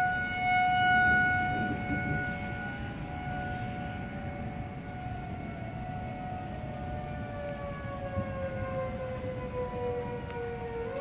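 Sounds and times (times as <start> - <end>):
warning siren wailing: 0.0 - 11.0.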